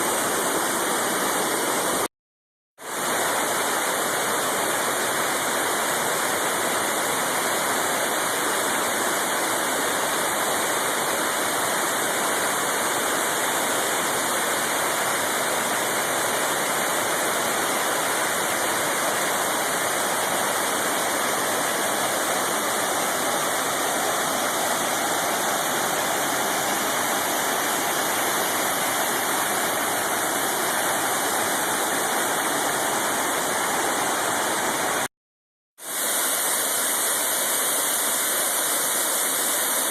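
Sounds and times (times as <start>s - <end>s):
waterfall crashing onto rocks: 0.0s - 2.1s, 2.9s - 35.1s, 35.8s - 39.9s.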